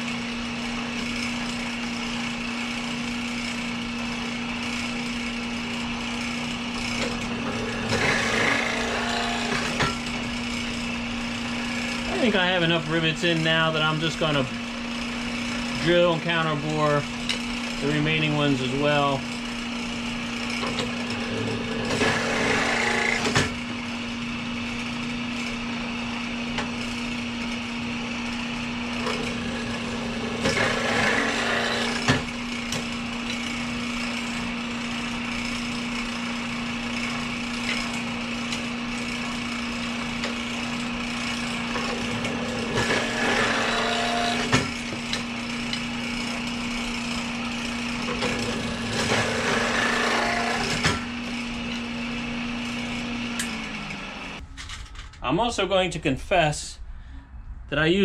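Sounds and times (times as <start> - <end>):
drill grinding rasping cut: 0.0 - 54.4
drilling machine motor humming: 0.0 - 54.4.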